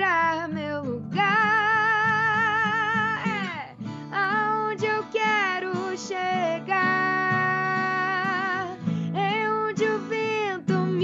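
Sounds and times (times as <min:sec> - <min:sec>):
acoustic guitar strumming: 0:00.0 - 0:11.0
woman singing: 0:00.0 - 0:11.0.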